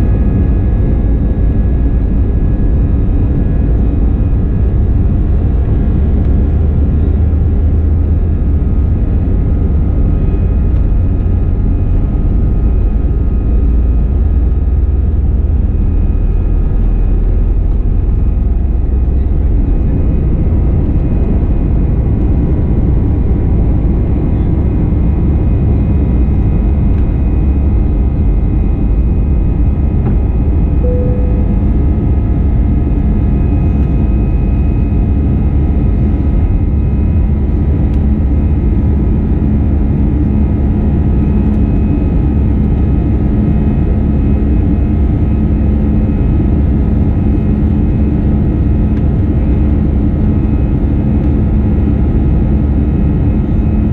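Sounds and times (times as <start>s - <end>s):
jet engines roaring at takeoff: 0.0s - 53.9s
steady engine whine: 0.0s - 53.9s.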